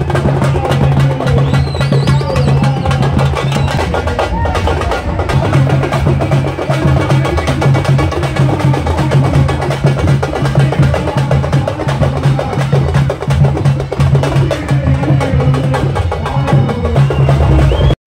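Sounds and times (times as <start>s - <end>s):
drums in fast rhythm: 0.0s - 18.0s.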